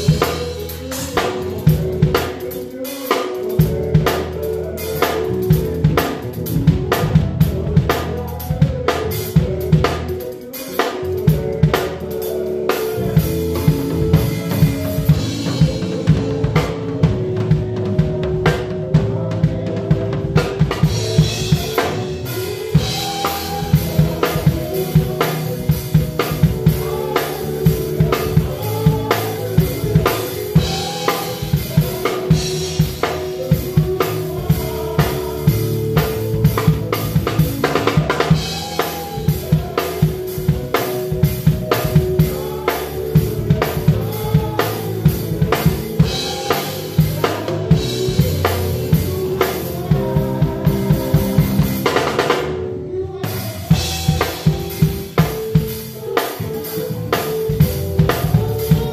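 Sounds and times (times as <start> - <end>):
drum kit playing: 0.0 - 58.9
live band music: 0.0 - 58.9.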